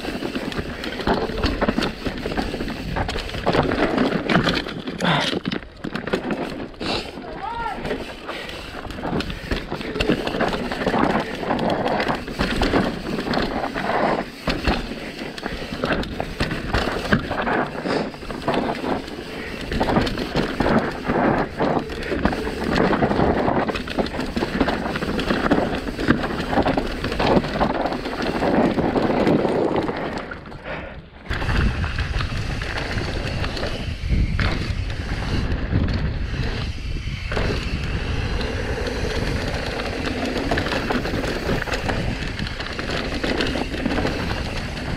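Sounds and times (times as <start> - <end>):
bike rattling over bumps: 0.0 - 44.9
bike tyres on loose ground: 0.0 - 44.9
wind buffeting microphone: 6.7 - 44.9.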